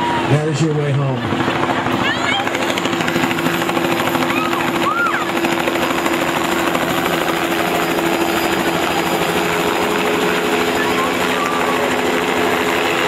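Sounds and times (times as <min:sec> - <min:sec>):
helicopter engine hum: 0:00.0 - 0:13.0
helicopter rotor chopping: 0:00.0 - 0:13.0.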